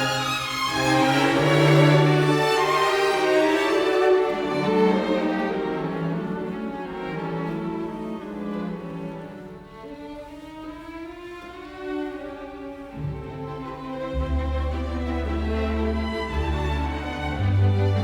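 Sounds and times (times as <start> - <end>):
slow string music: 0.0 - 18.0.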